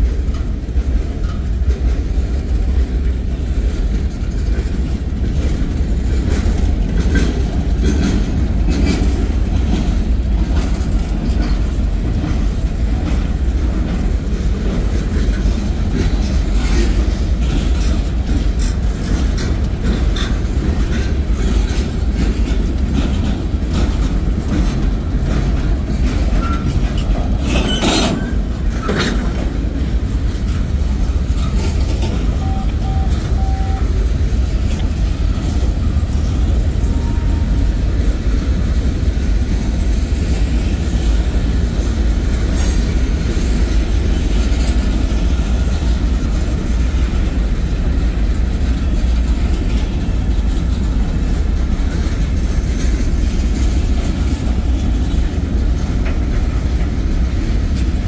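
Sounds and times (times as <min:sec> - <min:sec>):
clicks of rail wheels: 0:00.0 - 0:58.0
train wheels rumbling on rail: 0:00.0 - 0:58.0.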